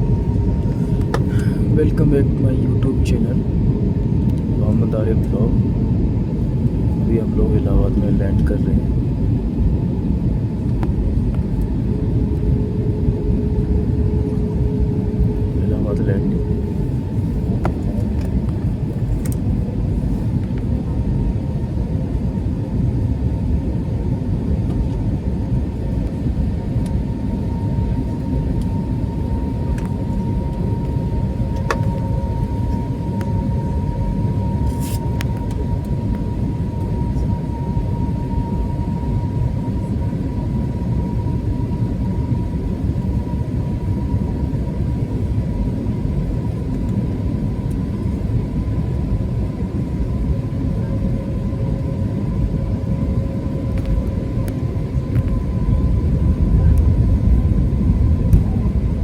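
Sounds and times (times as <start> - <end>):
airliner engine rumble: 0.0 - 59.0
high engine whine: 0.0 - 59.0.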